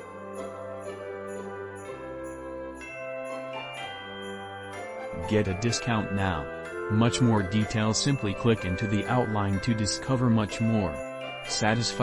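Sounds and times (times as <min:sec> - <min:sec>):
steady sleigh bell beat: 0:00.0 - 0:12.0
held chords: 0:01.2 - 0:12.0.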